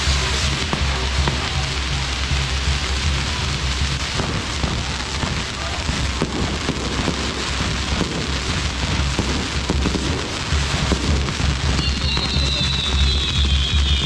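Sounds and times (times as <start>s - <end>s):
firework shells bursting: 0.0s - 14.0s
fireworks crackling and hissing: 0.0s - 14.0s
whistling firework: 0.0s - 14.0s.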